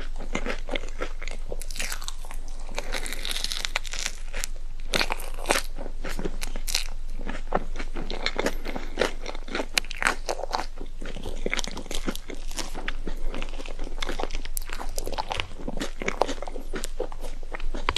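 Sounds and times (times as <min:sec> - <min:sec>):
person chewing crunchy food: 0:00.0 - 0:17.9.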